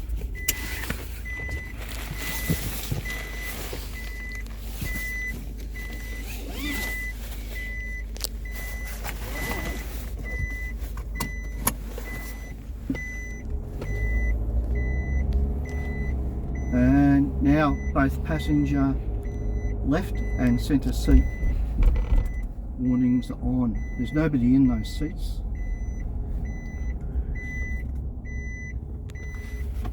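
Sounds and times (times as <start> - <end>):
idling vehicle hum: 0.0 - 29.9
seat belt warning chime beeping: 0.0 - 29.9.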